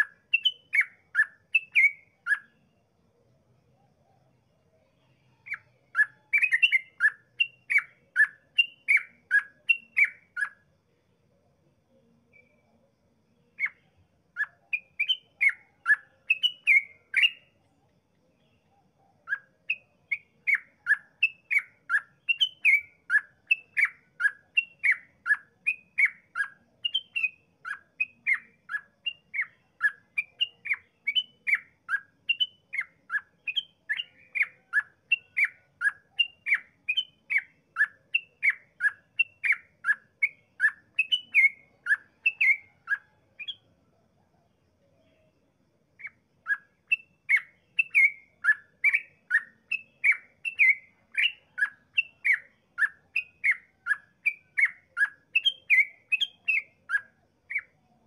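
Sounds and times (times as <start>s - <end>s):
bulbul singing: 0.0s - 2.8s, 4.0s - 10.8s, 11.9s - 43.8s, 46.0s - 58.0s.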